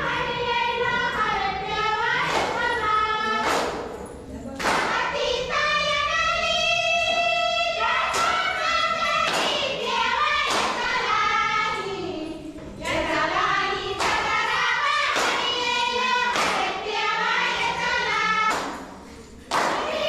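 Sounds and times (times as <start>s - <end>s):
group singing a folk song: 0.0s - 4.0s, 4.6s - 20.0s.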